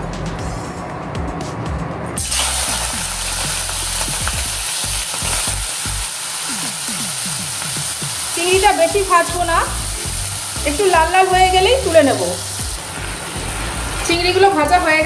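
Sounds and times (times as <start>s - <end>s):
prawns sizzling in hot oil: 2.2s - 15.0s.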